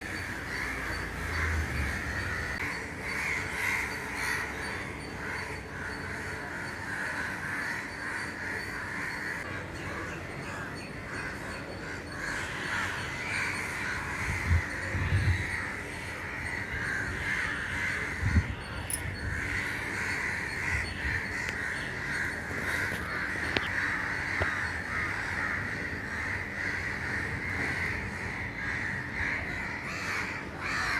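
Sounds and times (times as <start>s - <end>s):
crows cawing: 0.0s - 30.9s.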